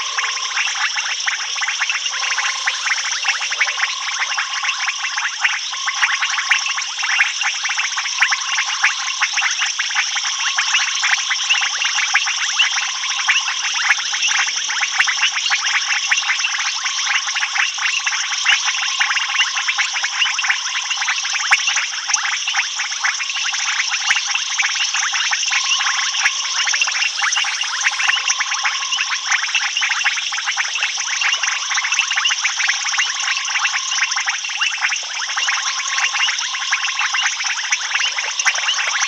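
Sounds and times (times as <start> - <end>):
frogs and insects clicking calls: 0.0 - 39.0.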